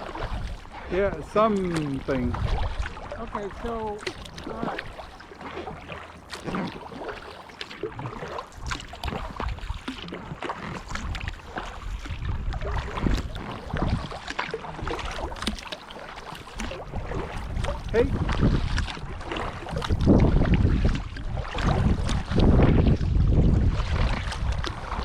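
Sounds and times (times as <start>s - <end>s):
wind rumble on microphone: 0.0s - 5.8s, 7.8s - 15.6s, 16.4s - 25.0s
water dripping off paddle: 0.0s - 22.4s
paddle splashing in water: 0.0s - 25.0s.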